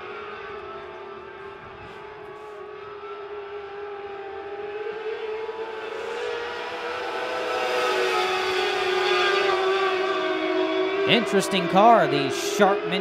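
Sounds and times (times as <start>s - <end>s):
race cars at high revs: 0.0s - 13.0s.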